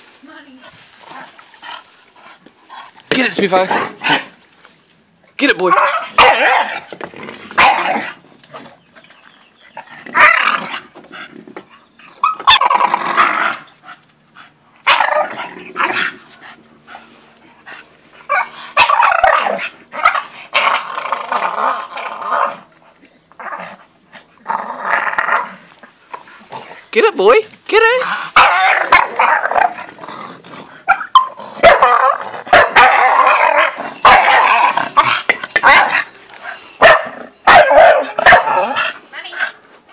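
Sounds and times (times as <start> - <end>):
dogs growling and barking: 3.6 - 4.4, 5.7 - 9.0, 9.7 - 26.9, 28.0 - 39.6.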